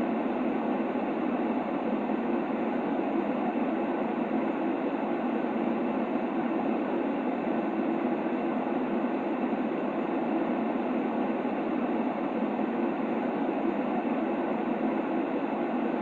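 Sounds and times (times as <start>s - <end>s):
steady white noise: 0.0s - 16.0s.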